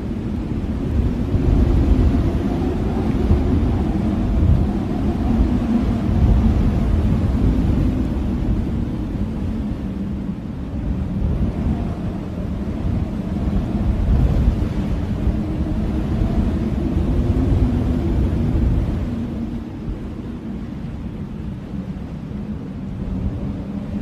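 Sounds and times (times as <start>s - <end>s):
blizzard wind howling: 0.0s - 24.0s.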